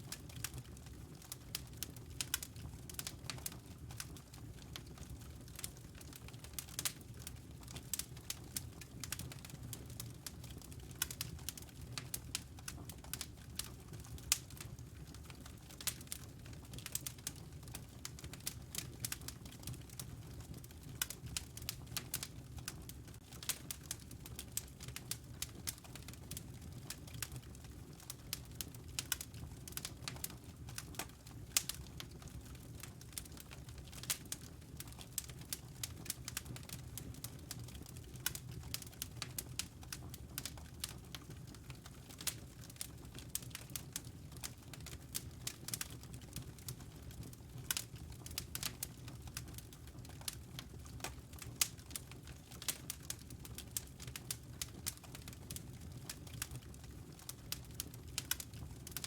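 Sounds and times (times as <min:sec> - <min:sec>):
fire crackling: 0:00.1 - 0:59.0.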